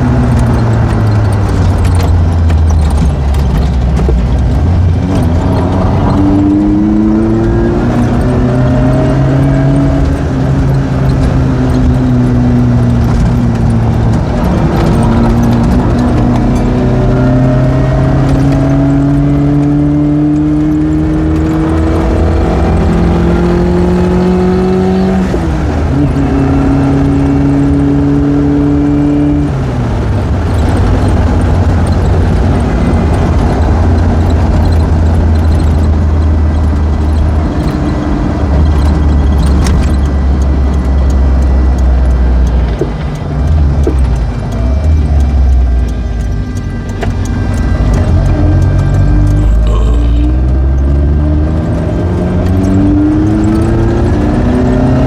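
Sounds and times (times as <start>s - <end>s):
car engine pulling through gears: 0.0s - 55.0s.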